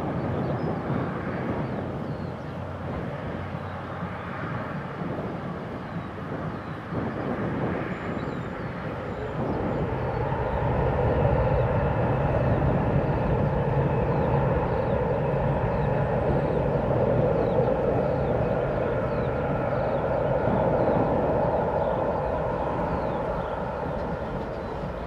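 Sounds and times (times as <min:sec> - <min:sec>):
jet engines rumbling with whine: 0:00.0 - 0:25.0.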